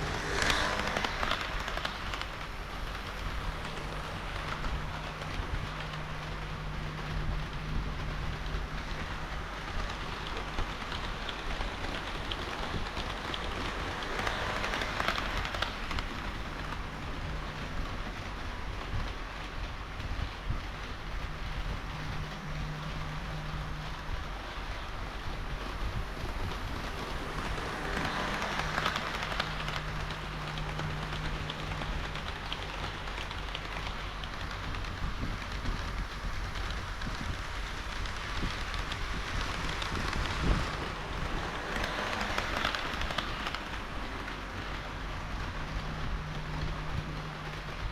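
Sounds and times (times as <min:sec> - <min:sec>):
low motor hum: 0:00.0 - 0:47.9
model train wheels rattling on rails: 0:00.0 - 0:47.9
rail joint clicks: 0:00.0 - 0:47.9.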